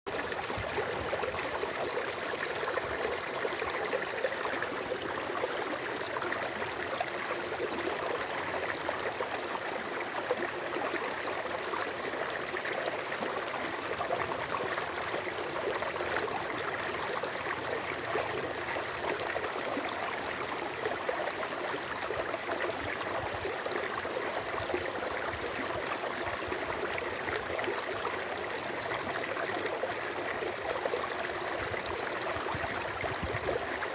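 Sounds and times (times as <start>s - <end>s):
stream running water: 0.1s - 33.9s.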